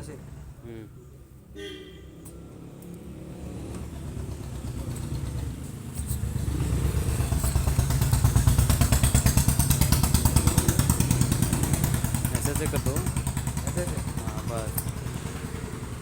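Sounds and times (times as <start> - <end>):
motorcycle engine running: 2.3 - 16.0.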